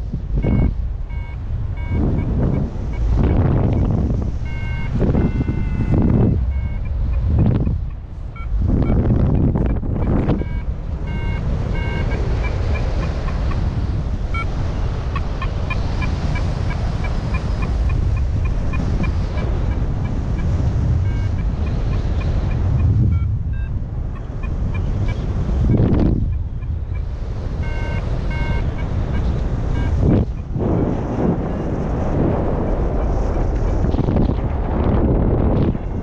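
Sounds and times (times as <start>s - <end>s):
wind on microphone: 0.0s - 36.0s
variometer beeping: 0.3s - 30.6s.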